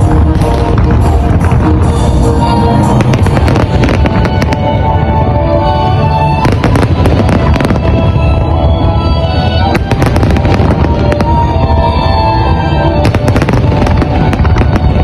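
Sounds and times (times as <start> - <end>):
fireworks bangs and crackles: 0.0 - 15.0
loud music: 0.0 - 15.0.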